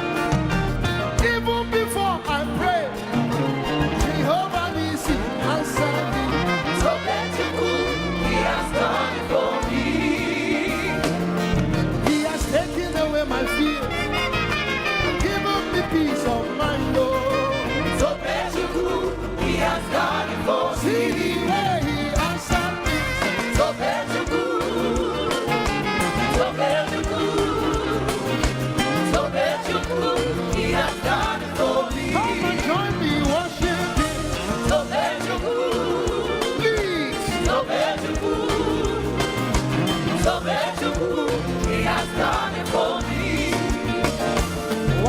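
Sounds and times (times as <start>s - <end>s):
gospel band with bass and drums: 0.0s - 45.0s
lead singer: 1.0s - 45.0s
congregation singing: 2.9s - 45.0s.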